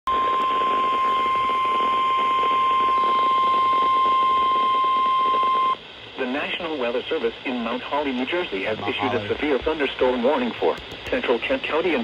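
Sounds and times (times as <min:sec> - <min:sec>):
radio reception hiss: 0:00.2 - 0:12.0.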